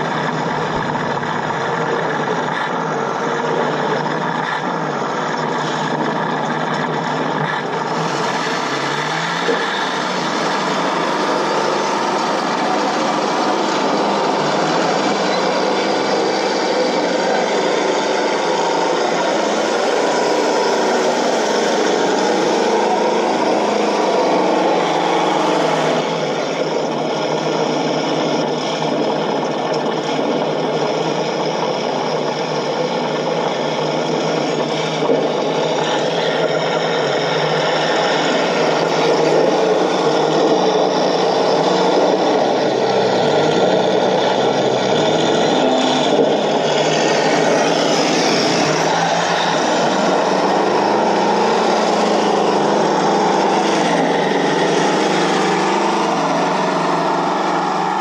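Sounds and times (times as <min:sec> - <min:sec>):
toy tank engine sound from speaker: 0:00.0 - 0:58.0.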